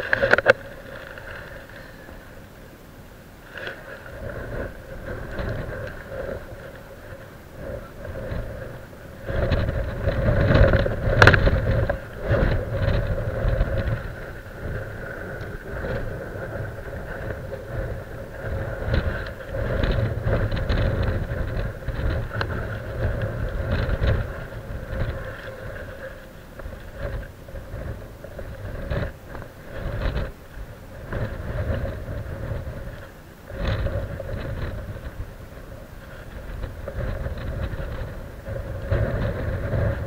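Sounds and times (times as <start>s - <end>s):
steady hum: 0.0s - 40.0s
wind gusting on microphone: 0.0s - 40.0s.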